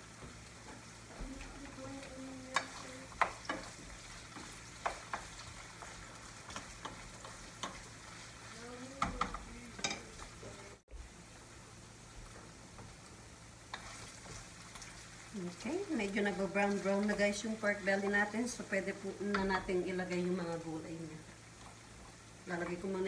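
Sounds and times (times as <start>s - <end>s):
food sizzling in a frying pan: 0.0s - 23.0s.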